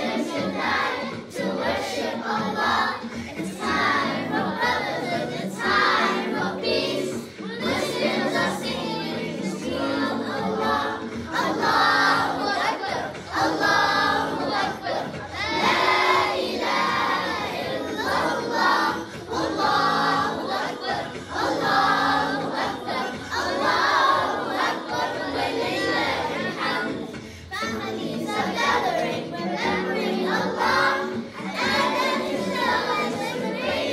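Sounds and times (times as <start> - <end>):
children singing: 0.0 - 33.9.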